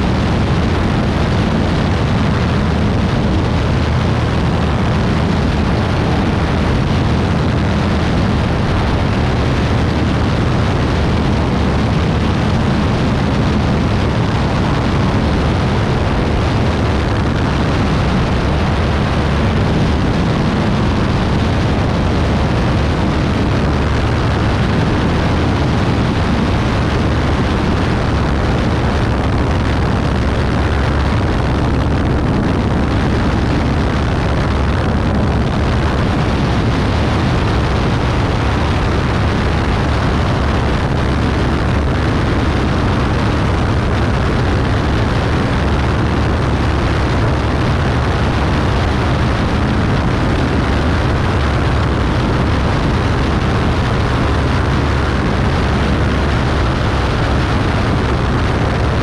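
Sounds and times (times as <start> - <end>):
aircraft engine drone: 0.0 - 59.0.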